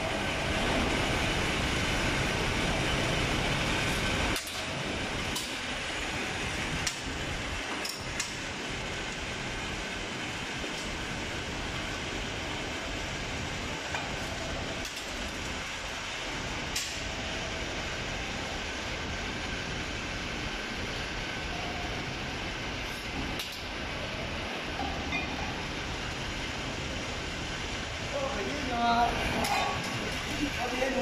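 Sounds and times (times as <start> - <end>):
steady rushing machine noise: 0.0 - 31.0.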